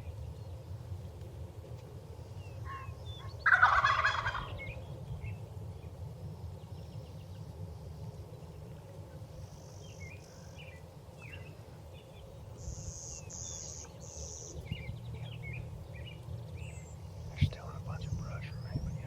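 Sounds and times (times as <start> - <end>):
low rumble of wind: 0.0 - 19.0
songbirds chirping: 0.0 - 19.0.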